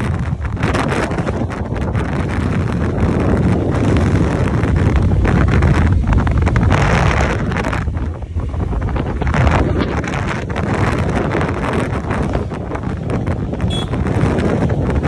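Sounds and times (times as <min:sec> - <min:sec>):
motorcycle and road rumble: 0:00.0 - 0:15.0
wind buffeting microphone: 0:00.0 - 0:15.0.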